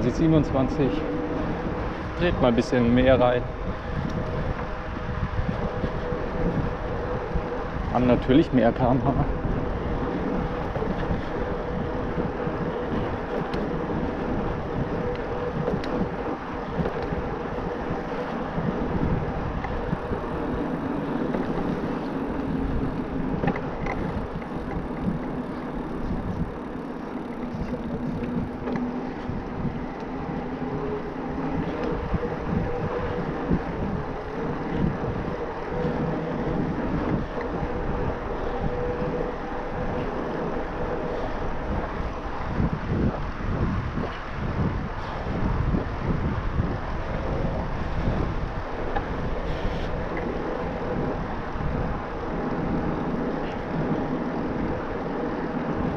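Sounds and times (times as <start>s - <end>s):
bike tyre noise: 0.0s - 55.9s
lower hum: 0.0s - 55.9s
steady hum: 0.0s - 55.9s
wind on camera microphone: 0.0s - 55.9s.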